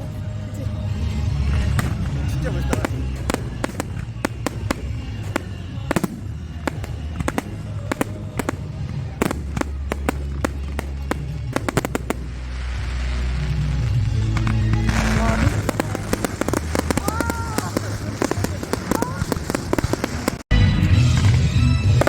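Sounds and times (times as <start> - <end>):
fireworks bangs and crackling: 0.0 - 22.0
hissing crackle: 1.4 - 20.4.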